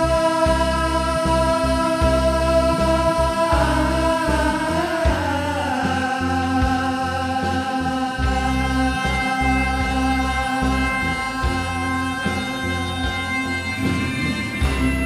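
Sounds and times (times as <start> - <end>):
instrumental backing with bass: 0.0 - 15.0
person singing long note: 0.0 - 15.0
regular drum beats: 0.0 - 15.0.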